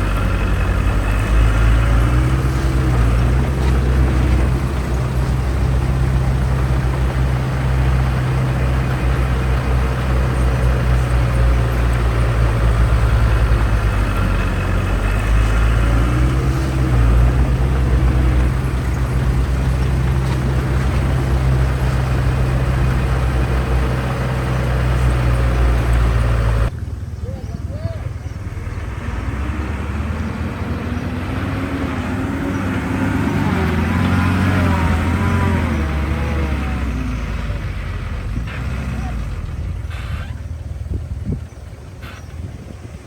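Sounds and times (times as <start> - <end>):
heavy diesel machinery engine drone: 0.0 - 43.0.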